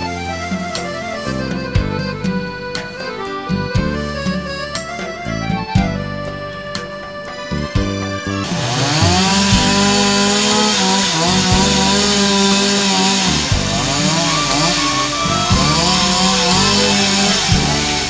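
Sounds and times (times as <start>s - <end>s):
chainsaw revving and cutting: 0.0s - 18.0s
music: 0.0s - 18.0s.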